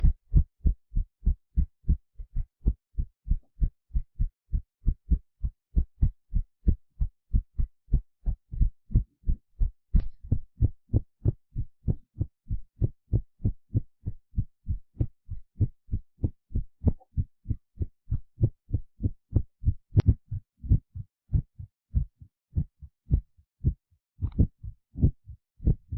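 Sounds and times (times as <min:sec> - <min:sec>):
heartbeat thumps: 0:00.0 - 0:25.9.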